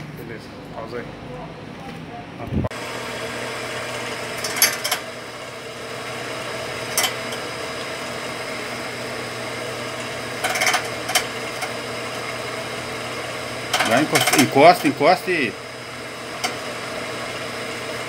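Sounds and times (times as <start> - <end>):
drill press motor humming: 2.7 - 18.0.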